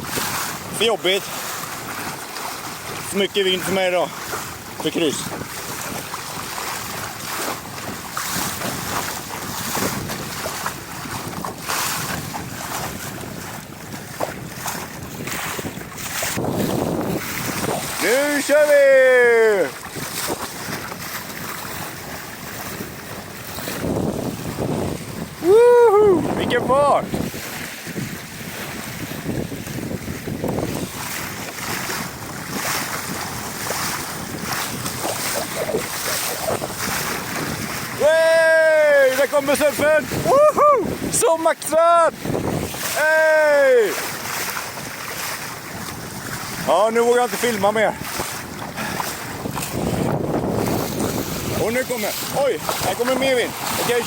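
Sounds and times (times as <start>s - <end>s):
water rushing along boat hull: 0.0s - 54.0s
wind buffeting microphone: 0.0s - 54.0s.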